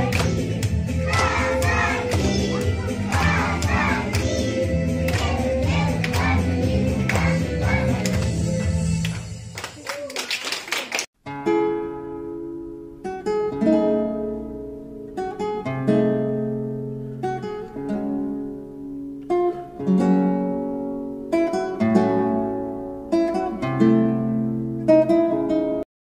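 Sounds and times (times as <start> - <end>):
strummed guitar chords: 0.0 - 9.0, 11.2 - 25.8.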